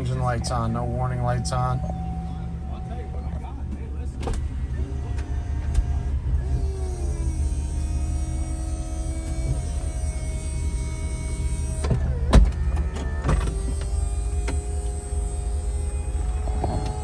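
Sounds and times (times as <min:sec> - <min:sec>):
car engine idling: 0:00.0 - 0:17.0
faint engine whine: 0:00.0 - 0:17.0.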